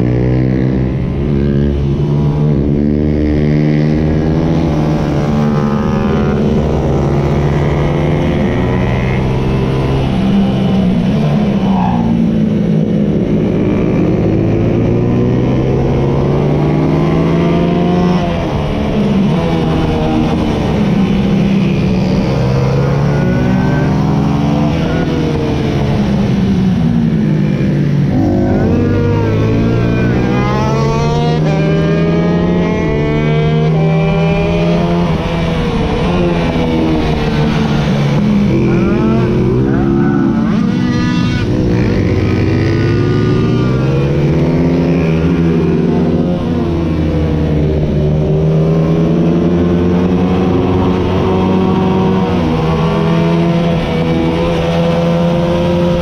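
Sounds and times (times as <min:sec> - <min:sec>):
racing motorcycle engines revving: 0:00.0 - 0:56.0.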